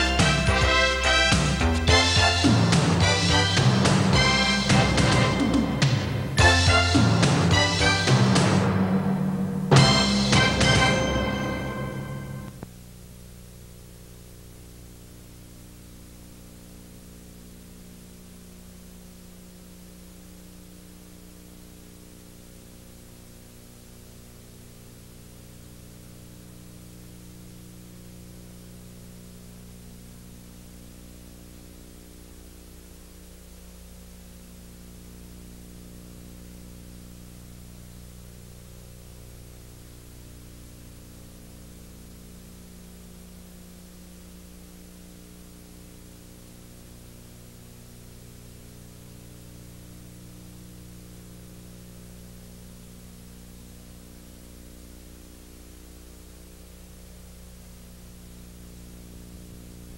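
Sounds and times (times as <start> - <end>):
low electrical hum: 0.0 - 59.9
tape hiss: 0.0 - 59.9.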